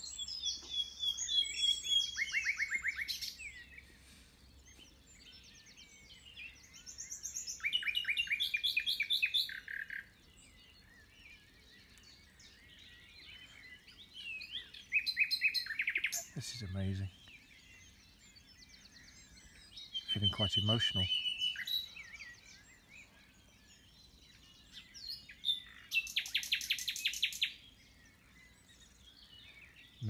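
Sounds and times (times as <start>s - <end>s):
faint birdsong: 0.0s - 30.0s
nightingale singing: 0.0s - 30.0s.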